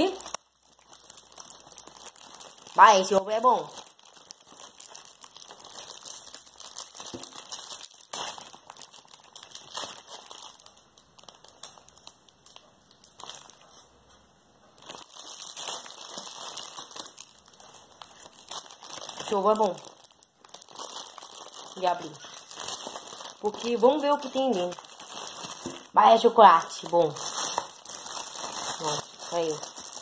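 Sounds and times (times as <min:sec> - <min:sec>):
metallic wrapping crinkling: 0:00.0 - 0:30.0.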